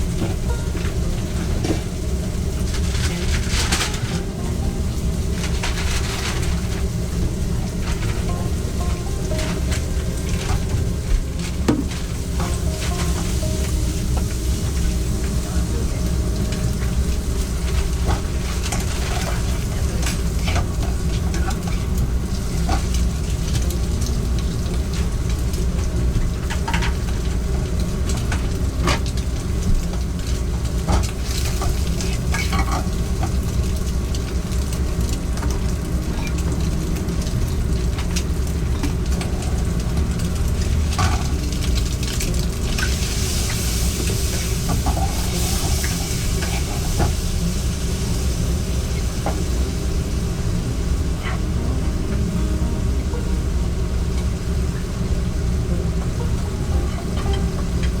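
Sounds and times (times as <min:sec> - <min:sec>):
food sizzling in a pan: 0:00.0 - 0:58.0
steady low rumble: 0:00.0 - 0:58.0.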